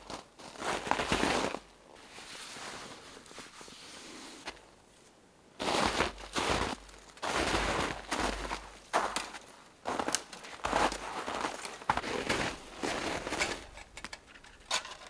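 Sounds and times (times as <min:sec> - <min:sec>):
footsteps crunching in snow: 0:00.0 - 0:04.7, 0:05.6 - 0:13.7.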